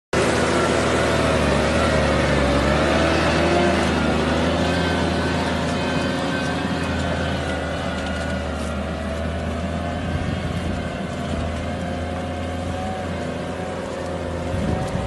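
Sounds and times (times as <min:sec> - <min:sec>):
tractor diesel engine under load: 0:00.1 - 0:15.0.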